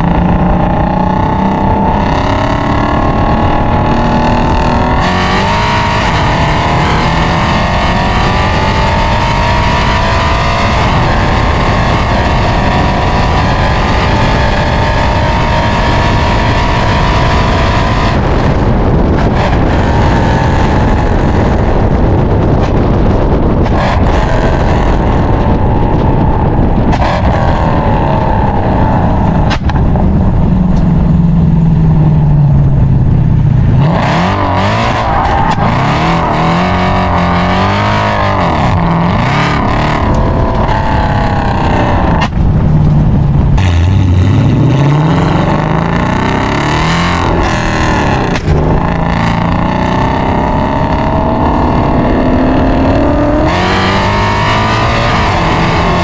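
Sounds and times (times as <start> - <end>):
car exhaust accelerating hard: 0.0 - 56.0.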